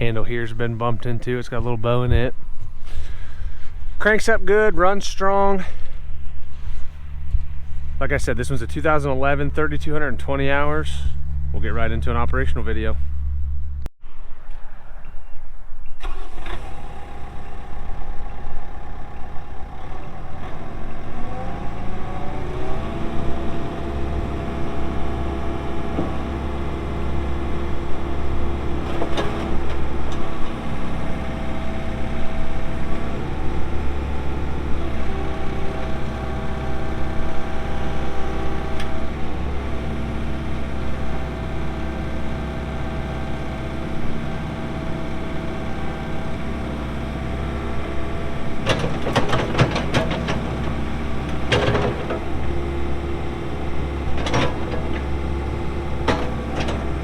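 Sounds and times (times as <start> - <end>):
excavator diesel engine running: 0.0 - 13.9, 16.0 - 57.0.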